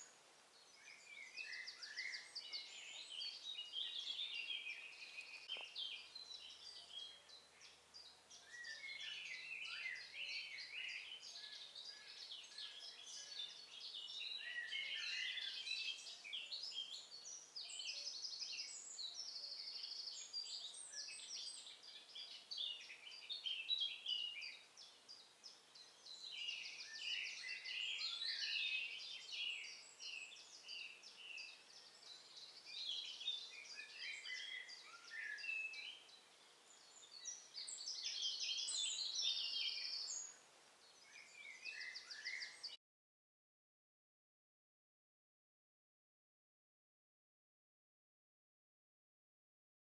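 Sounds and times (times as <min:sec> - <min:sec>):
songbirds chirping and trilling: 0:00.0 - 0:42.8.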